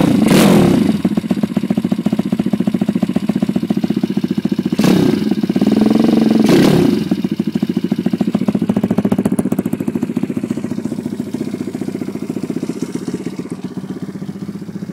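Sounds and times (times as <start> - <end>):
dirt bike engine revving and idling: 0.0 - 14.9.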